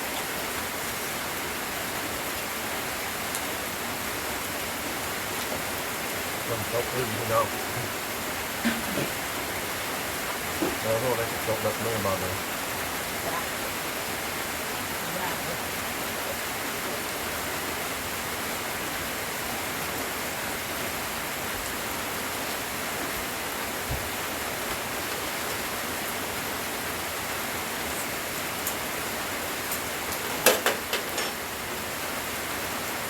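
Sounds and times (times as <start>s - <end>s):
light rain hissing: 0.0s - 33.0s.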